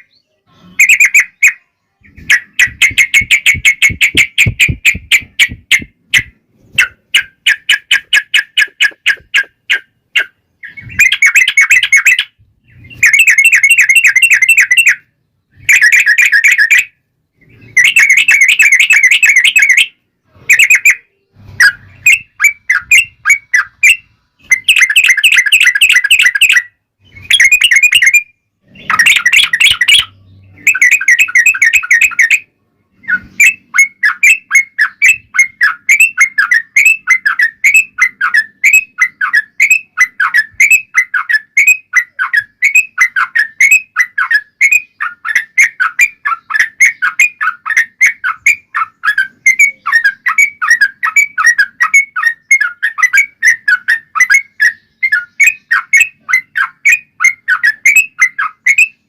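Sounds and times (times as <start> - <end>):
bird singing rolling phrases: 0.0 - 59.0.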